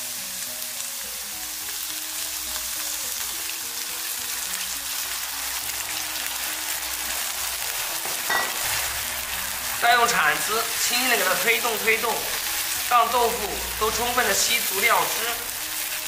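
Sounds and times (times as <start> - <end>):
tofu sizzling in oil: 0.0 - 16.0.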